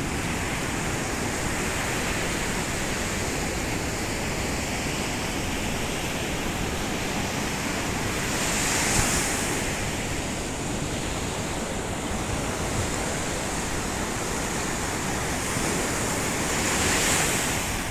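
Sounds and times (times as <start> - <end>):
waves breaking on beach: 0.0 - 17.9.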